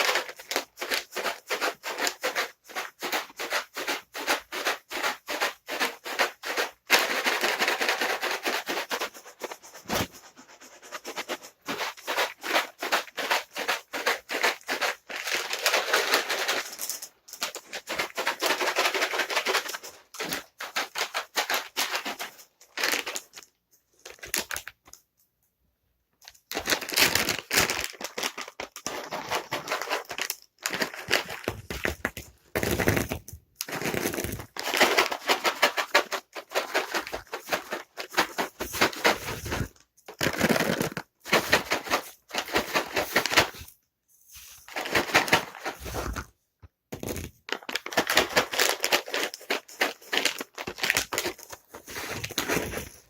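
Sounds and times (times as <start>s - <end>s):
cat treats rattling in container: 0.0s - 25.0s, 26.2s - 43.8s, 44.4s - 46.3s, 47.0s - 53.0s.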